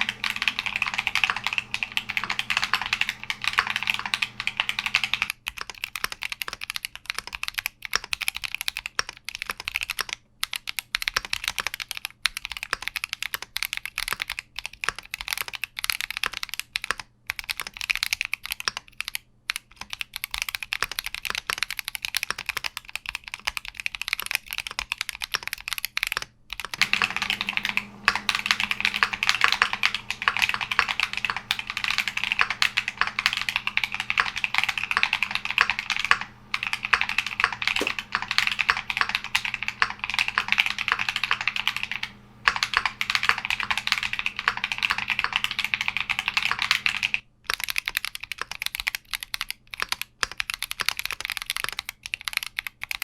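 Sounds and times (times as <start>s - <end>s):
mechanical keyboard typing: 0.0s - 53.0s.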